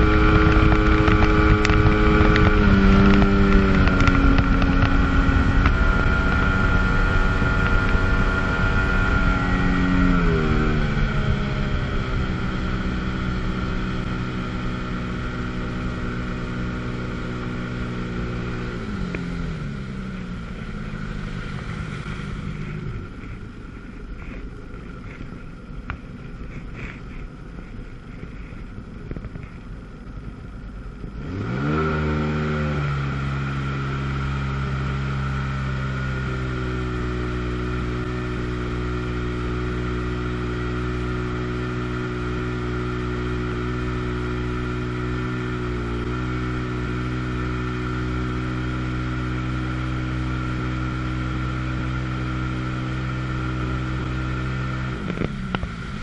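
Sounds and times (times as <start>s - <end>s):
jet ski engine running: 0.0s - 56.0s.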